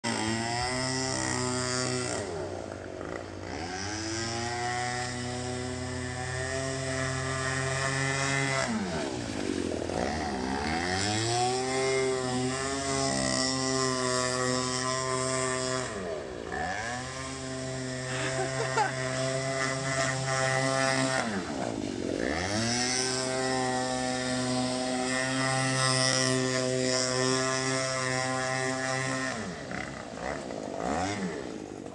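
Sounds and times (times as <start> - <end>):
speedboat engine buzzing: 0.0 - 31.9.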